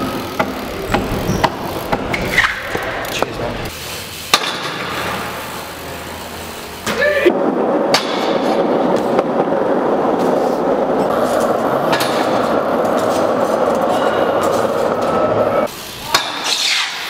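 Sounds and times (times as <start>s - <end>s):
bike tyres rolling on concrete: 0.0s - 17.0s.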